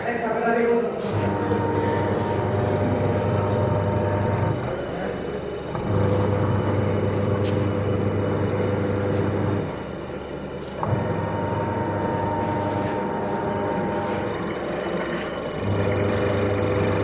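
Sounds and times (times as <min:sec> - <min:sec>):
washing machine motor humming: 0:00.8 - 0:17.0.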